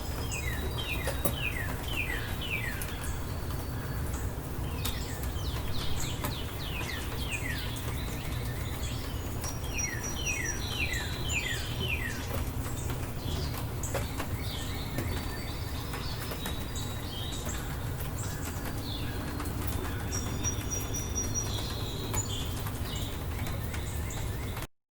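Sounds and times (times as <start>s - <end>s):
songbirds chirping: 0.0s - 24.7s.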